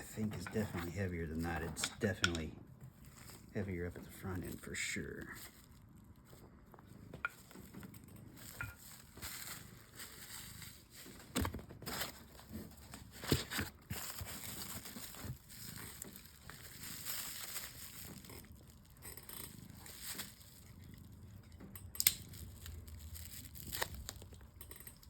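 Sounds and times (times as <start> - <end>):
packing material crinkling and tearing: 0.0 - 25.0.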